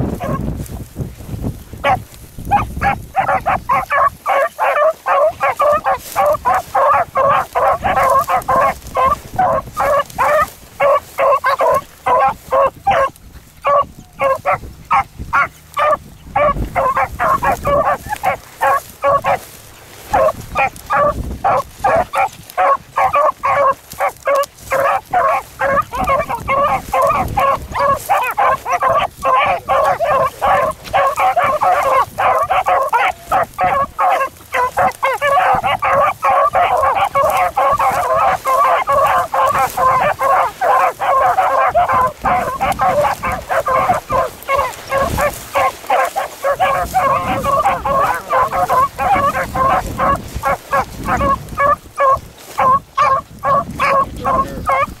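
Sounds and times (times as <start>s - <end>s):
hounds baying: 0.0s - 0.5s, 1.8s - 55.0s.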